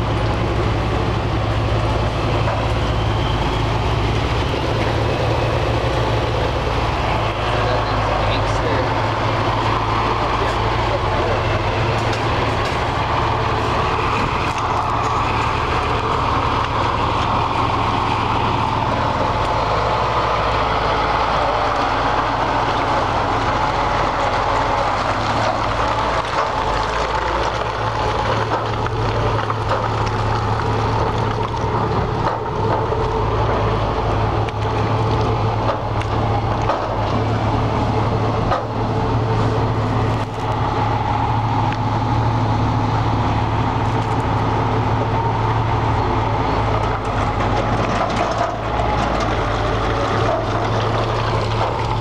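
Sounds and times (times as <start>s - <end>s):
truck engine droning: 0.0s - 52.0s.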